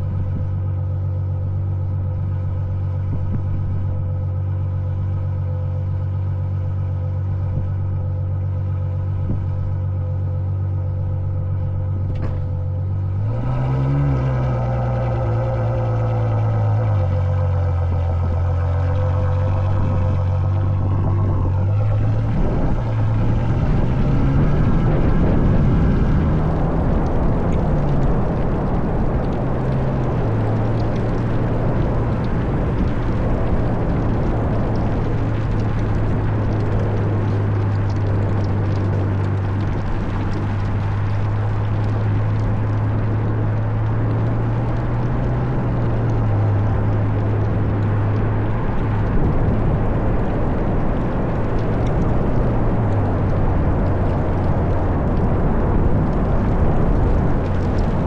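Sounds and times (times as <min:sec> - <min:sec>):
car engine driving: 0:00.0 - 0:58.0
road noise: 0:00.0 - 0:58.0
wind noise: 0:00.0 - 0:58.0.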